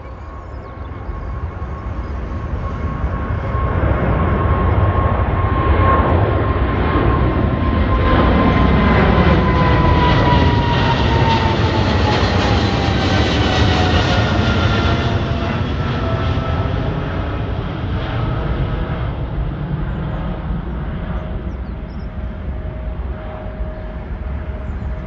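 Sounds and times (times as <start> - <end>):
jet engine rumble and whine: 0.0 - 25.0.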